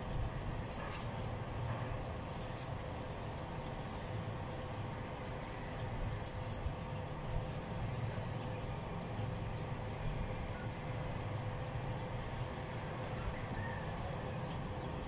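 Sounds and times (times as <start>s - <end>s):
faint hum: 0.0s - 15.0s
steady low rumble: 0.0s - 15.0s.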